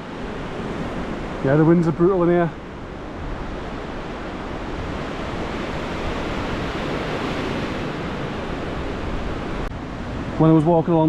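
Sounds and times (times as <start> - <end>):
gale wind rushing through pines: 0.0 - 11.0
wind buffeting microphone: 0.0 - 11.0.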